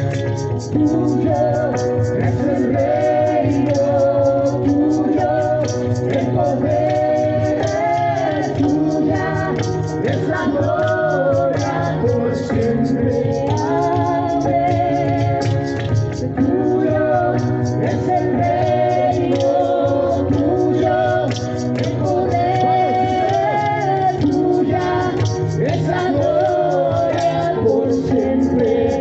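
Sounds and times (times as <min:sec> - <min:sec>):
instrumental accompaniment with beat: 0:00.0 - 0:29.0
voices singing: 0:00.0 - 0:29.0.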